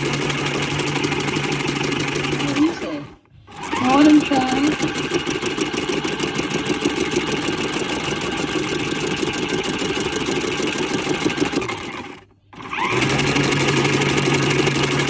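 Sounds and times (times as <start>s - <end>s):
spin-dryer motor rattling: 0.0s - 15.0s.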